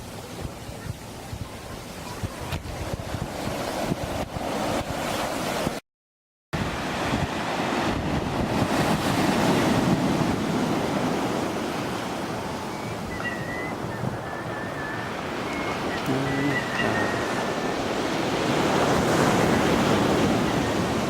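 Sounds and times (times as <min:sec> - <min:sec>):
sea waves washing onto beach: 0:00.0 - 0:05.8, 0:06.6 - 0:21.0
wind buffeting microphone: 0:00.0 - 0:05.8, 0:06.6 - 0:21.0.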